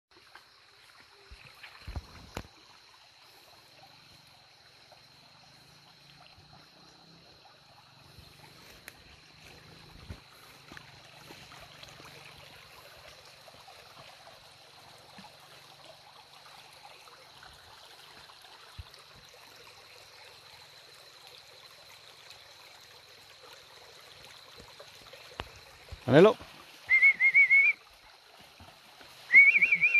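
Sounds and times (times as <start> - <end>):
stream trickling: 0.1 - 29.9.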